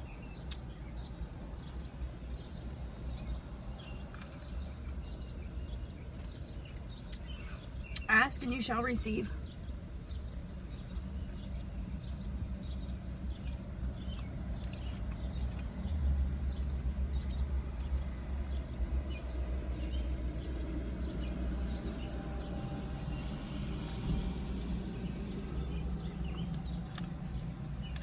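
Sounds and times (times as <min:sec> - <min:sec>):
small birds chirping: 0:00.0 - 0:28.0
steady low rumble: 0:00.0 - 0:28.0.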